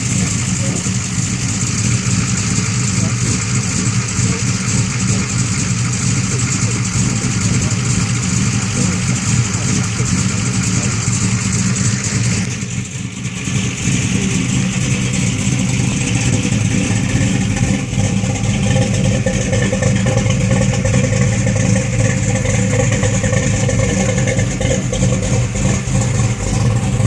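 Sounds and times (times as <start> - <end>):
car engine loping idle: 0.0 - 27.0.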